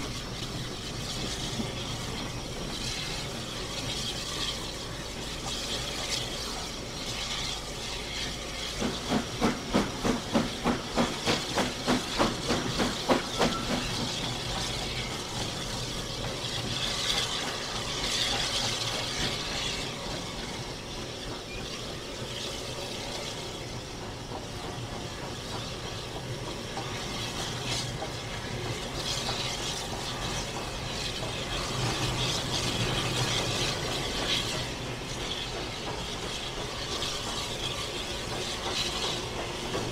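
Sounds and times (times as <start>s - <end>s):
steam hiss: 0.0s - 39.9s
wheel and rail noise: 0.0s - 39.9s.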